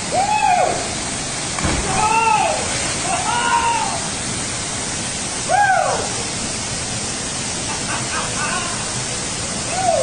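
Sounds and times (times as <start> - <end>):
waterfall roar: 0.0 - 10.0.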